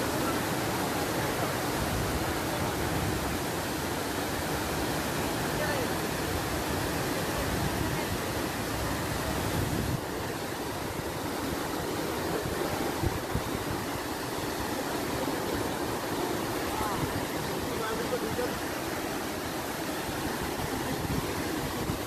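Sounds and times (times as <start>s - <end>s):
waterfall roaring into pool: 0.0s - 22.0s.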